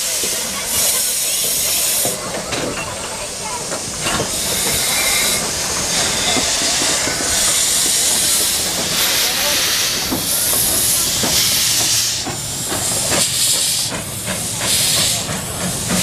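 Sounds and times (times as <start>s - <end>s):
loud steam hissing: 0.0s - 16.0s
steam locomotive moving off: 0.0s - 16.0s.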